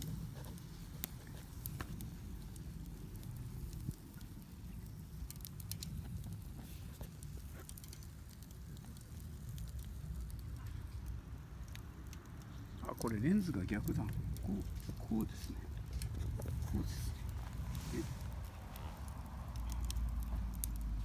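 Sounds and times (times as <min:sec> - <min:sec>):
campfire rumble: 0:00.0 - 0:21.0
crackles and pops of burning wood: 0:00.0 - 0:21.0.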